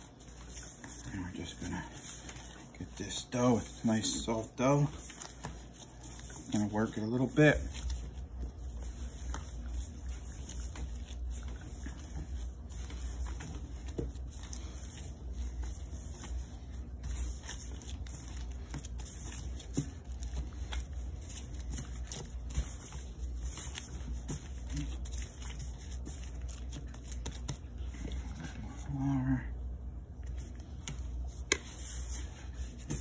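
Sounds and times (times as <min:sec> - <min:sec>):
dough being kneaded by hand: 0:00.0 - 0:33.0
steady low hum: 0:00.0 - 0:33.0.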